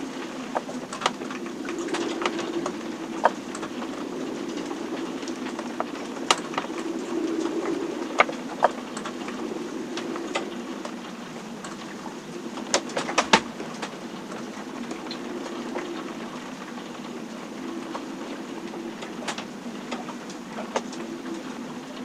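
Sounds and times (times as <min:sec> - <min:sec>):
steady rushing drone: 0:00.0 - 0:22.0.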